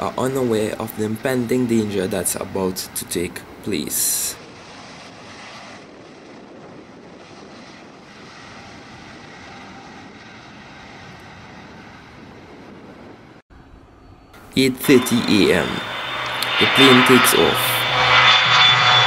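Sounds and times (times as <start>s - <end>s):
jet engines drone in cabin: 0.0s - 19.0s.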